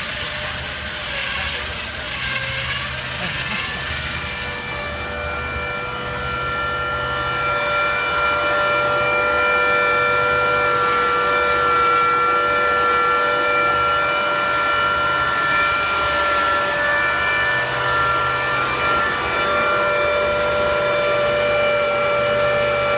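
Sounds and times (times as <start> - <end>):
wire saw machine whining: 0.0 - 22.9.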